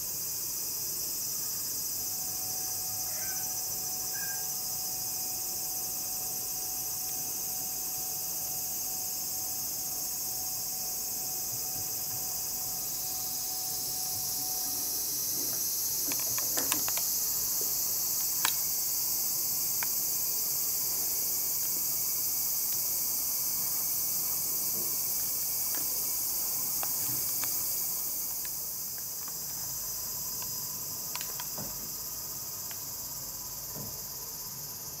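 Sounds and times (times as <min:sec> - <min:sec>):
crickets and insects chorus: 0:00.0 - 0:35.0.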